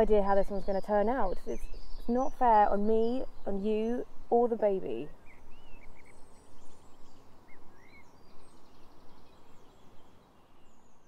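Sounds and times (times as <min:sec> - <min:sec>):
birds chirping and trilling: 0:00.0 - 0:11.0
steady background hiss: 0:00.0 - 0:11.0.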